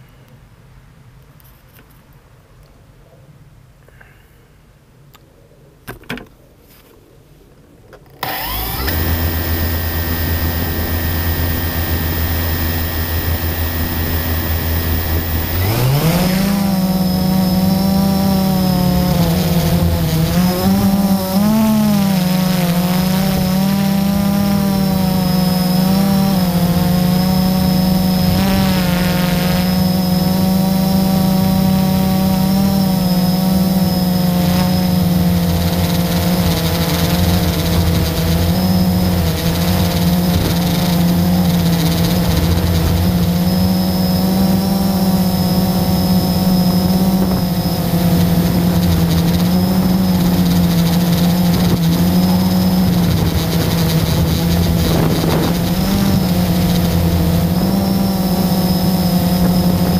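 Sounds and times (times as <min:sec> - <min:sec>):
drone propellers buzzing: 0:08.2 - 0:59.9.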